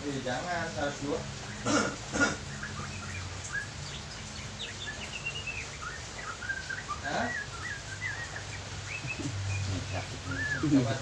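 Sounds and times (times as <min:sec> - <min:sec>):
small bird chirping: 0:01.4 - 0:11.0.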